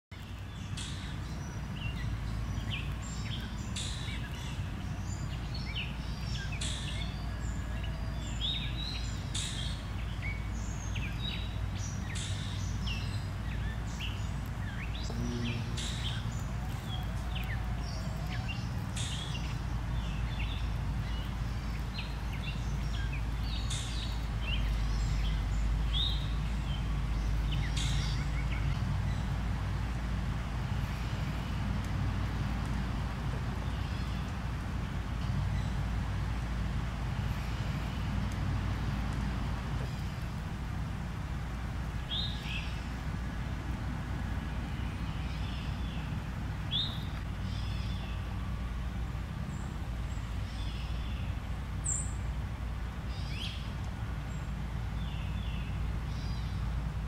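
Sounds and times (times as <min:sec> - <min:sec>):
birds chirping: 0:00.1 - 0:57.0
steady low rumble: 0:00.1 - 0:57.0.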